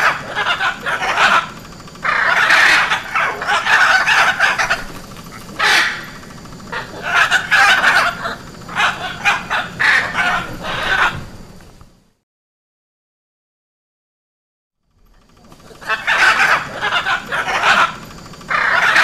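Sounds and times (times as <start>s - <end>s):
macaws squawking: 0.0s - 11.5s, 15.2s - 19.0s.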